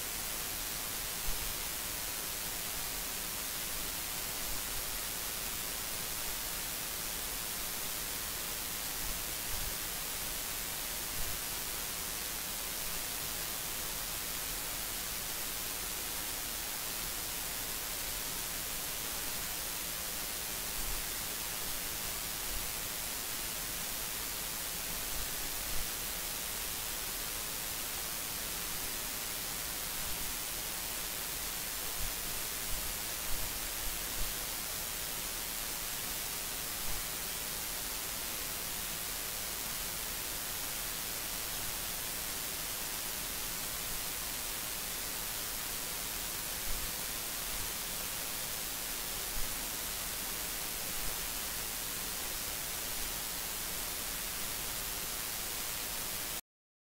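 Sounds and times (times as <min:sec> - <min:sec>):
recording noise hiss: 0:00.0 - 0:56.4.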